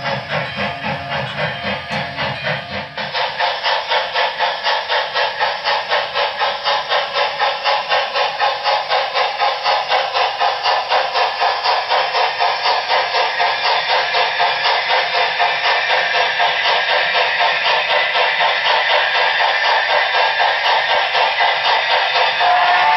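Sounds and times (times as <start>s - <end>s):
model steam locomotive chuffs: 0.0s - 22.9s.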